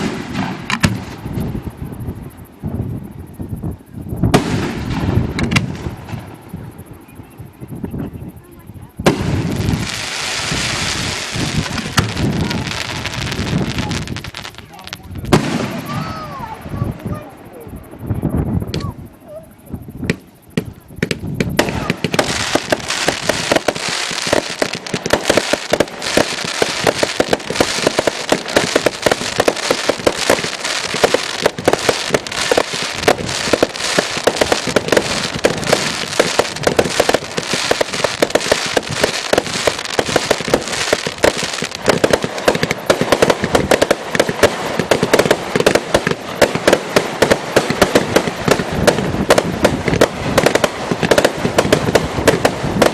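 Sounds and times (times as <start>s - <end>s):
fireworks bangs and crackling: 0.0s - 1.8s, 3.6s - 6.7s, 9.0s - 19.4s, 20.0s - 52.9s.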